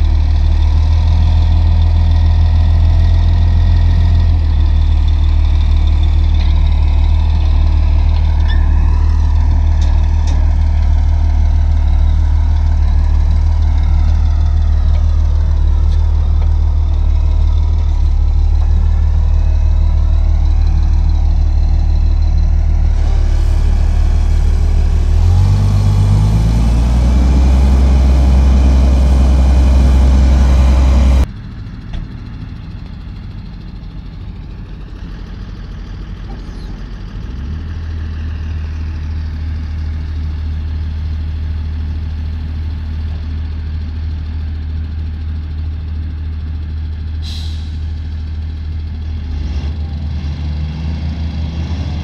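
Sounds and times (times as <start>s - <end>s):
diesel engine revving: 0.0s - 43.0s, 46.3s - 52.0s
tractor diesel idling: 0.0s - 49.2s.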